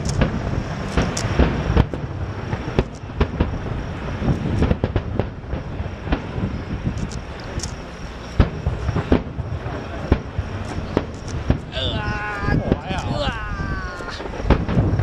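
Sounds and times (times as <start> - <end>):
fireworks bursts and crackling bangs: 0.0 - 15.0.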